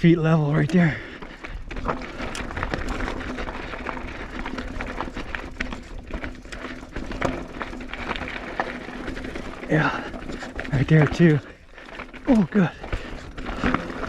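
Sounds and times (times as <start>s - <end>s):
bike rattling: 0.0s - 14.0s
bike tyres crunching on gravel: 0.2s - 14.0s
bike clicks and knocks: 0.4s - 14.0s.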